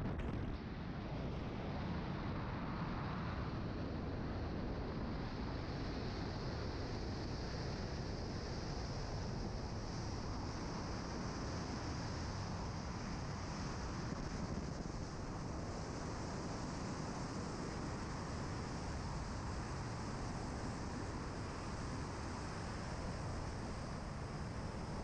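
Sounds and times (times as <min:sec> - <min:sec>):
freefall wind on microphone: 0:00.0 - 0:25.0.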